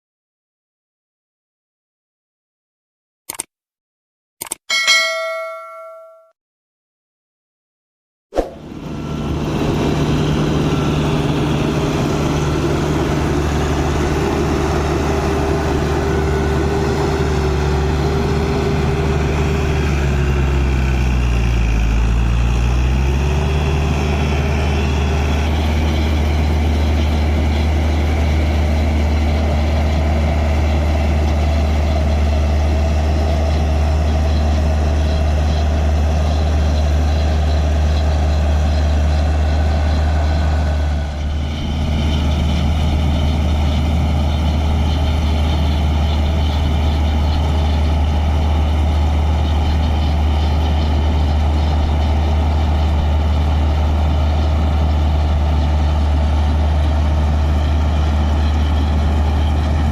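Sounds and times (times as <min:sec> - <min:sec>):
diesel engine running: 0:08.6 - 0:59.9.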